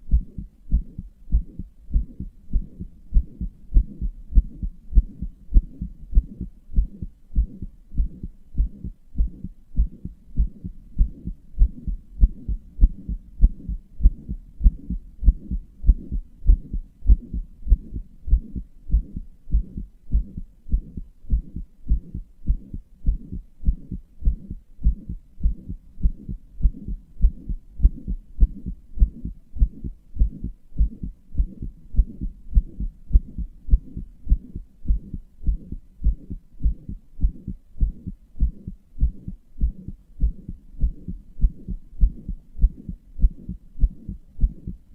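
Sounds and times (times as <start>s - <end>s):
heartbeat: 0.0s - 44.9s.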